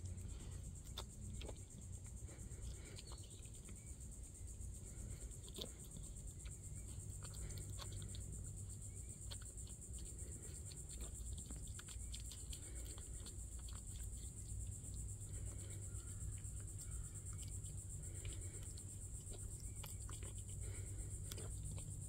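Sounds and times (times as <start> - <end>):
deer chewing grapes: 0.0 - 22.0
insects buzzing chorus: 0.0 - 22.0.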